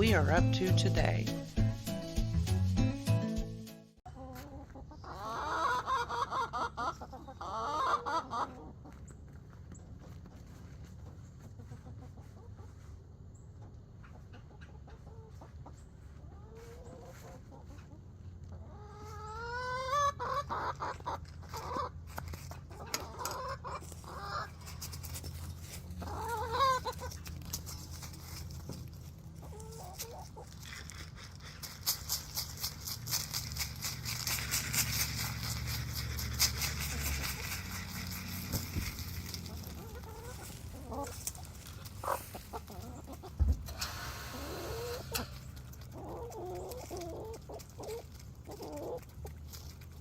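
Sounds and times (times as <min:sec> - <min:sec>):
chickens clucking: 0:04.1 - 0:50.0.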